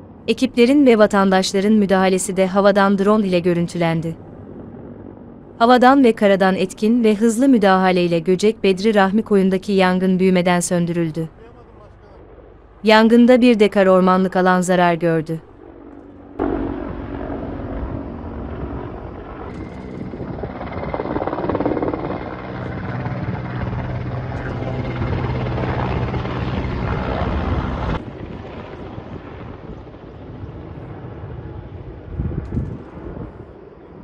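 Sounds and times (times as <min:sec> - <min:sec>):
helicopter in flight: 0:00.0 - 0:34.0.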